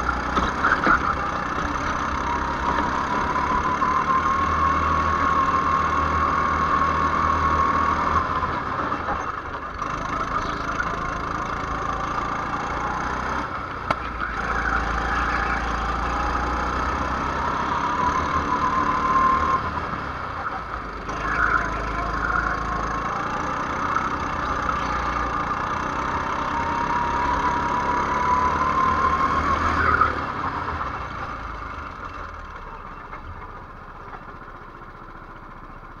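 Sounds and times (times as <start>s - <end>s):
go-kart engine revving: 0.0s - 36.0s.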